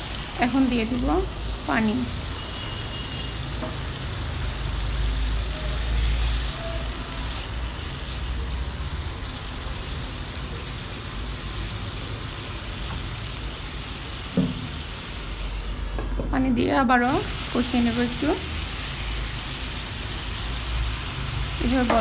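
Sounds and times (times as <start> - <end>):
curry sizzling in pan: 0.0 - 22.0.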